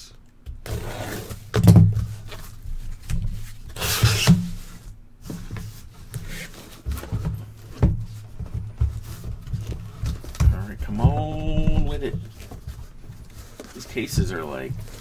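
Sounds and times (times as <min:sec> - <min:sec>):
cardboard rubbing and knocking: 0:00.6 - 0:15.0.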